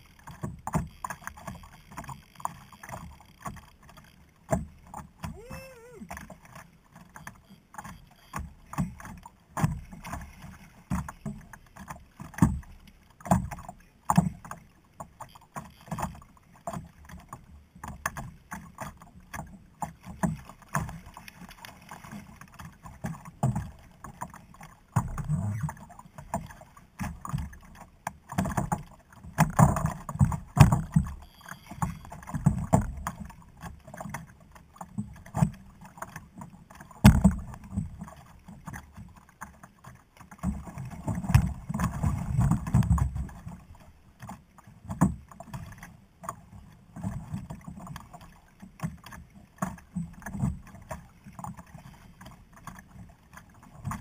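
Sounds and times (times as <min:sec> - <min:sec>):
water slapping against kayak hull: 0:00.0 - 0:54.0.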